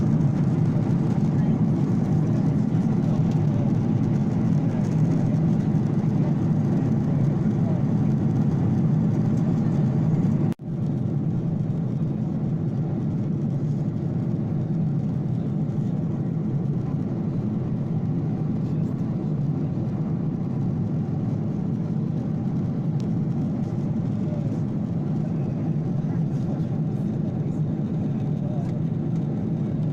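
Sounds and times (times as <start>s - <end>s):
airliner cabin drone: 0.0s - 29.9s.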